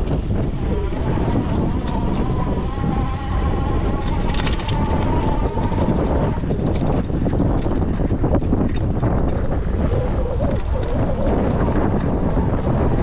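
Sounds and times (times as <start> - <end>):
bike rumbling over rough ground: 0.0 - 13.0
wind buffeting microphone: 0.0 - 13.0.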